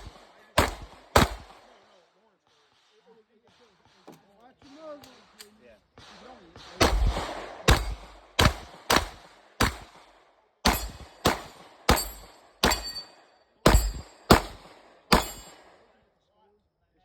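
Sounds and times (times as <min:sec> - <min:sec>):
pistol shots with echo: 0:00.0 - 0:16.0.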